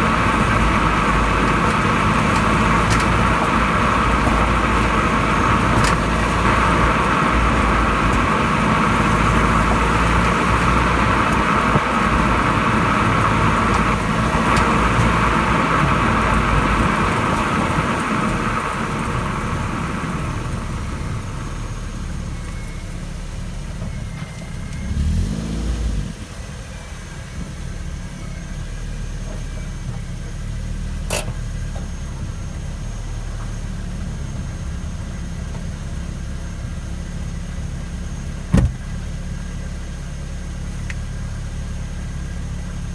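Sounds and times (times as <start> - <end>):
car road and running noise: 0.0 - 42.9.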